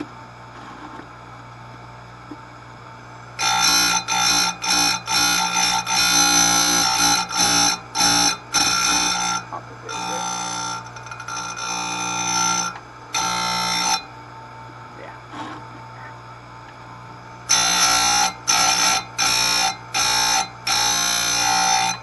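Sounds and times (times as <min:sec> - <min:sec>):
grinder motor running: 0:02.9 - 0:22.0.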